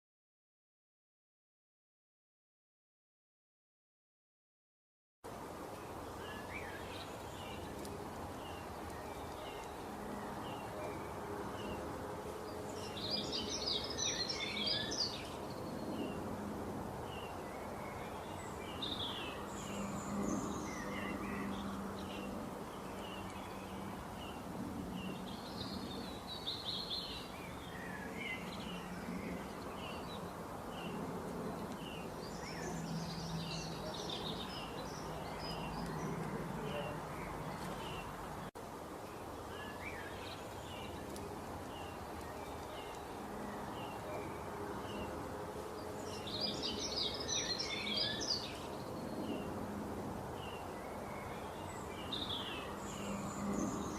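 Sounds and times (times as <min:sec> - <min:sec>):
small birds chirping: 0:05.6 - 0:16.4, 0:17.0 - 0:49.6, 0:50.4 - 0:53.9.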